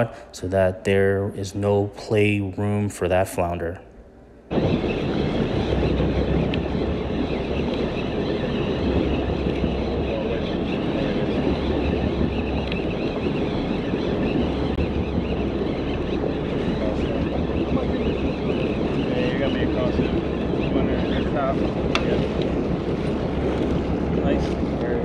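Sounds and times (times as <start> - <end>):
water moving along boat: 4.5 - 25.0
wind noise on microphone: 4.5 - 25.0.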